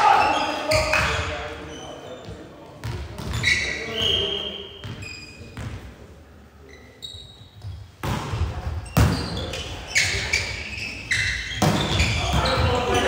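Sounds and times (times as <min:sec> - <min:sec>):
shoe squeaks: 0:00.0 - 0:02.4, 0:03.2 - 0:05.7, 0:06.6 - 0:08.0, 0:08.8 - 0:13.0
players' voices: 0:00.0 - 0:07.3, 0:08.0 - 0:13.0.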